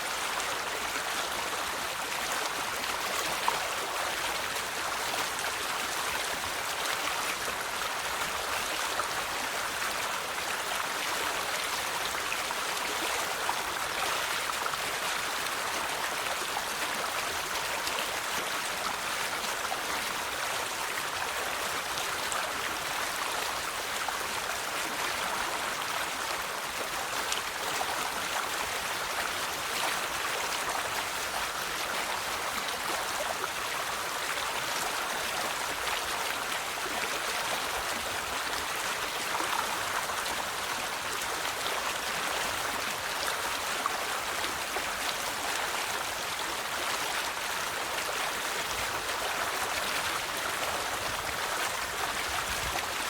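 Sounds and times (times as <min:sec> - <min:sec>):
river water babbling over stones: 0:00.0 - 0:53.0.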